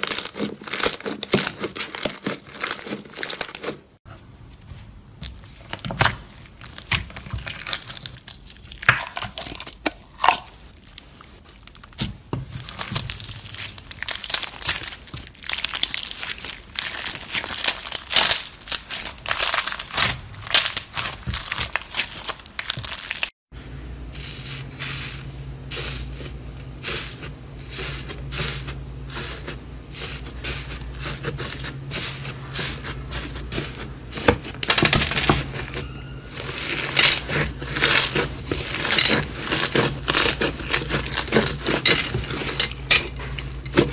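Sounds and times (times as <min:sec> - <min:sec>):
crunchy material crinkling by hand: 0:00.0 - 0:04.0, 0:10.6 - 0:23.3, 0:24.2 - 0:43.9.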